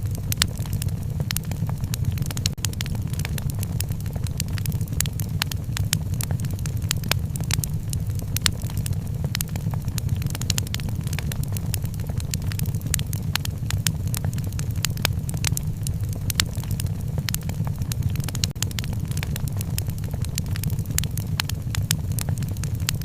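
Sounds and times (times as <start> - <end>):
steady low rumble: 0.0 - 23.0
wood fire crackling: 0.0 - 23.0.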